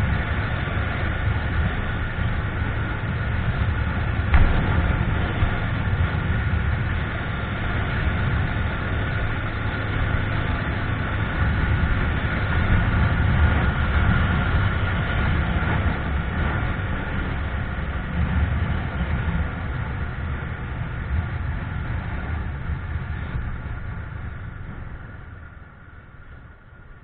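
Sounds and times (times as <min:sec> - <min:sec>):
motorcycle engine running: 0:00.0 - 0:27.0
wind and road noise: 0:00.0 - 0:27.0.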